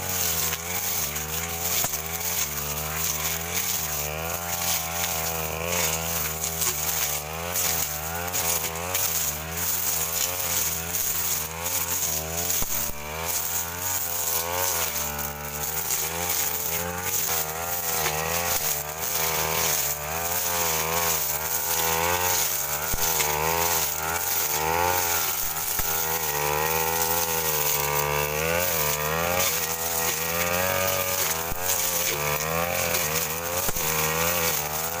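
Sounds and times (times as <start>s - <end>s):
brush cutter engine revving: 0.0s - 35.0s.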